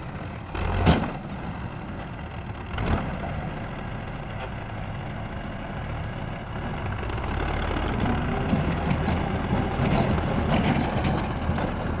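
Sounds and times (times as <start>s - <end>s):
tractor diesel engine: 0.0s - 12.0s.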